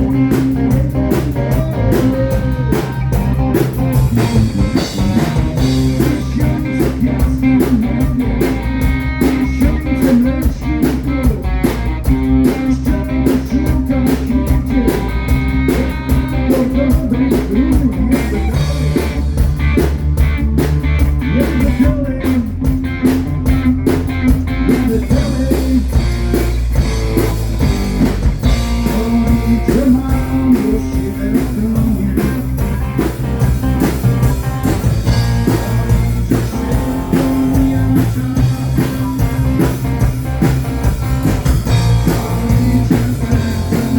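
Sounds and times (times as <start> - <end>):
rock blues band playing: 0.0 - 43.9.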